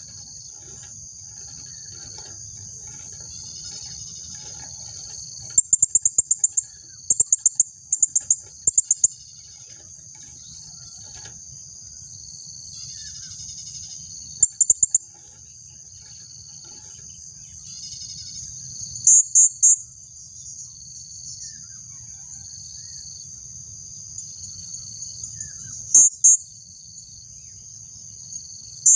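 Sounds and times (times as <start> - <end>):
insect drone: 0.0 - 28.9.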